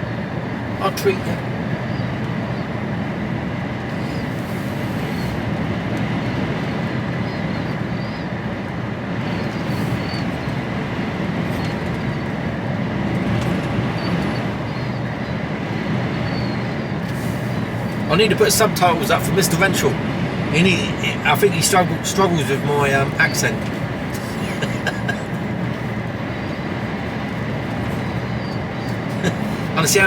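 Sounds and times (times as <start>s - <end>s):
lorry engine and road noise: 0.0s - 30.0s.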